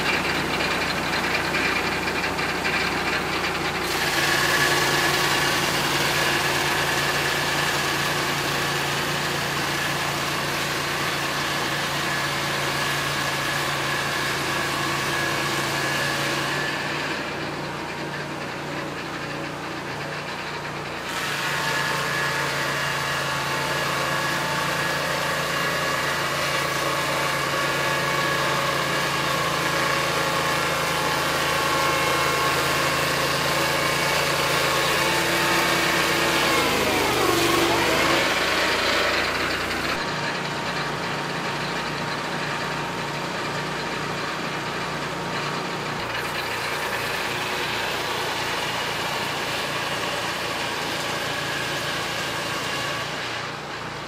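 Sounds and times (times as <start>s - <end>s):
circular saw blade cutting log: 0.0s - 54.0s
mill engine running: 0.0s - 54.0s.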